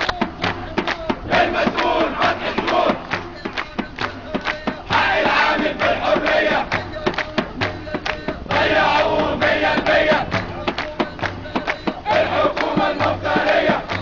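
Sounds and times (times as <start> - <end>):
crowd of men chanting: 0.0 - 14.0
hand drum beat: 0.0 - 14.0
rhythmic hand clapping: 0.0 - 14.0.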